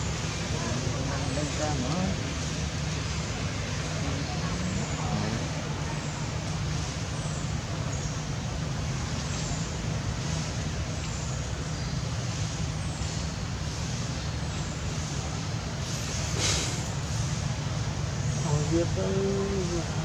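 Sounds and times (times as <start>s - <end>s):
steady low rumble and hiss: 0.0s - 20.0s.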